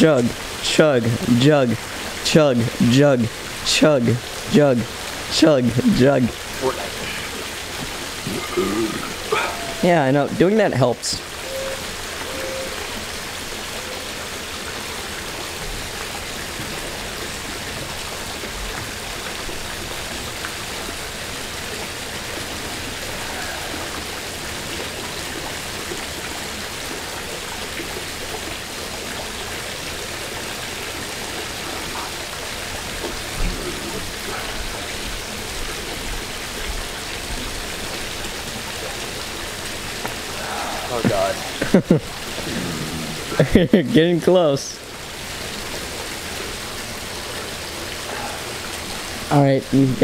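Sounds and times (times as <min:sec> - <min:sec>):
running water hissing: 0:00.0 - 0:50.0.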